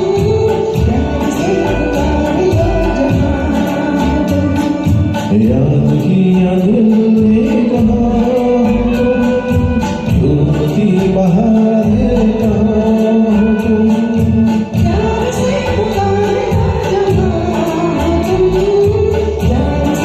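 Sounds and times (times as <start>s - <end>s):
backing track with steady beat: 0.0s - 20.0s
person singing karaoke: 0.0s - 20.0s.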